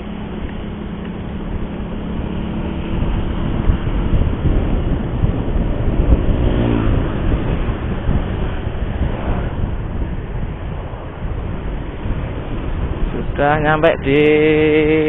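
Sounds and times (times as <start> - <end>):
passing vehicle engine: 0.0 - 15.0
traffic rumble: 0.0 - 15.0.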